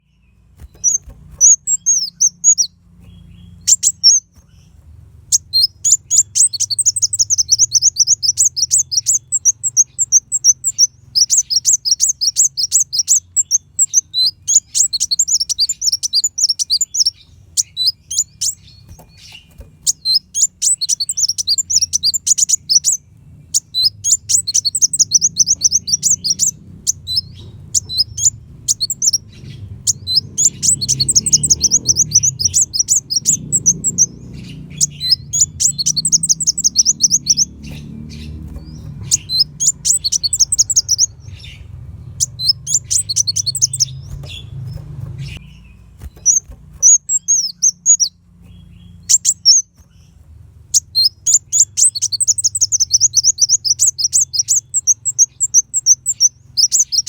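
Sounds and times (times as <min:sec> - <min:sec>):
sunbird twittering song: 0:00.0 - 0:57.0.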